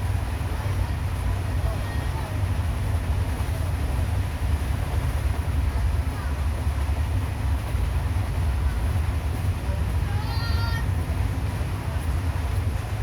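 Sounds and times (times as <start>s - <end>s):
train coach rumbling on track: 0.0s - 13.0s.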